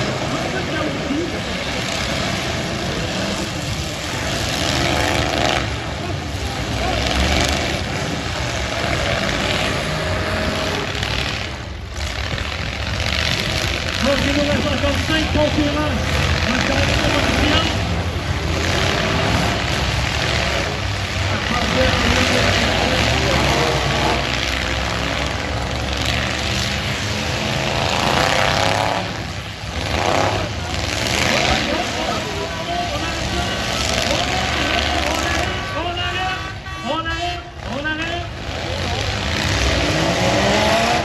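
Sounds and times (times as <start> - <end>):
loud car engines running: 0.0 - 41.0.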